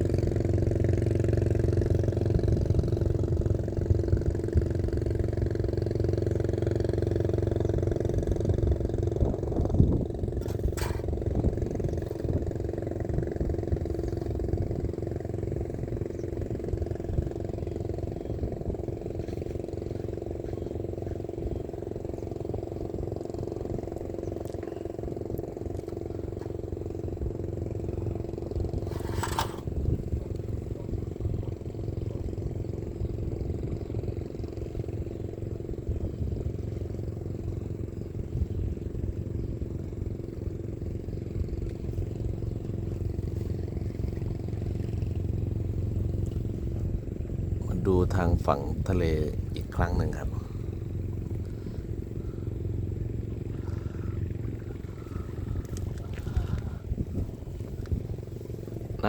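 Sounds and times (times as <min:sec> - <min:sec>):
engine droning steadily: 0:00.0 - 0:59.0.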